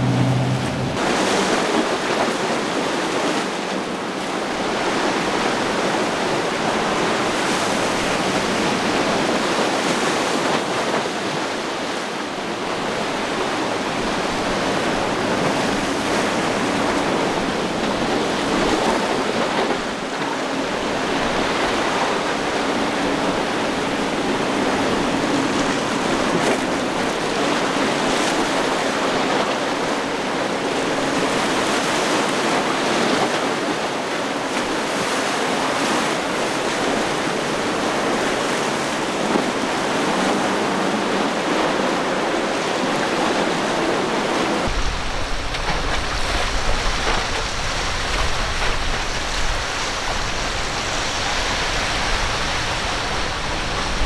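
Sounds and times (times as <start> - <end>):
waves breaking and churning: 0.0 - 54.0.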